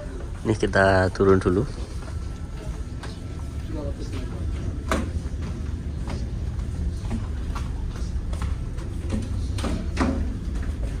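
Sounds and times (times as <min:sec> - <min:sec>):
footsteps going down stairs: 0:00.0 - 0:11.0.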